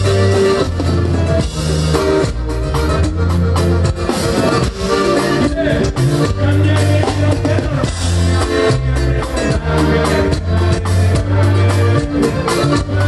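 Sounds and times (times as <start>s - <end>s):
drums beating: 0.0s - 13.0s
live band playing: 0.0s - 13.0s.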